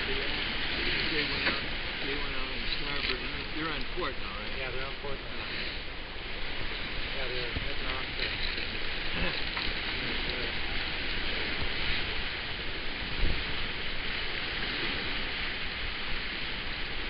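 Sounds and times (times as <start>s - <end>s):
water rushing past boat: 0.0s - 17.0s
wind buffeting microphone: 0.0s - 17.0s.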